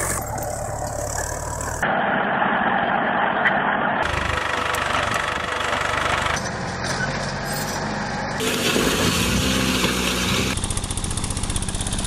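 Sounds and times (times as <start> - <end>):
small tractor engines running: 0.0 - 1.9, 4.0 - 12.0.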